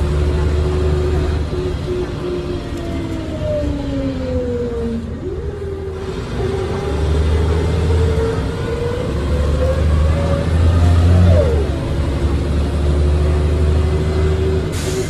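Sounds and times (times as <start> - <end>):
bus engine whine: 0.0 - 15.0.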